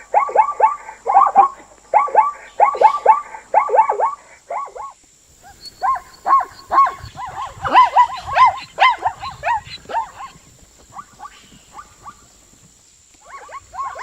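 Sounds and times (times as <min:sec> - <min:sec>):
animal short arched calls: 0:00.2 - 0:12.2.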